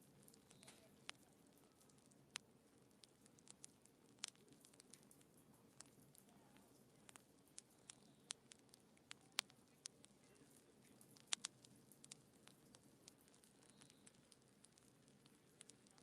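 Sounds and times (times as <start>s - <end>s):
steady hiss of fire: 0.0s - 16.0s
wood fire crackling: 0.0s - 16.0s.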